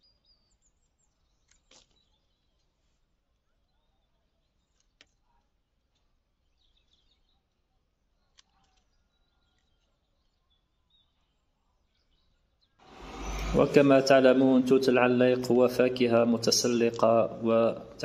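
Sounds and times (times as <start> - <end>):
faint bird chirps: 0.0 - 14.5.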